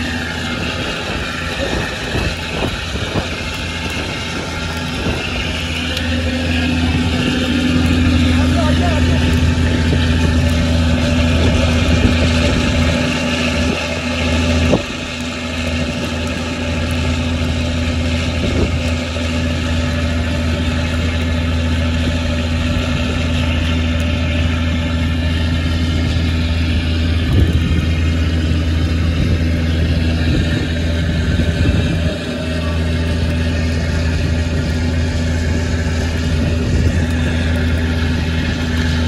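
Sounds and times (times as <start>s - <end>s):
boat engine droning: 0.0s - 39.0s.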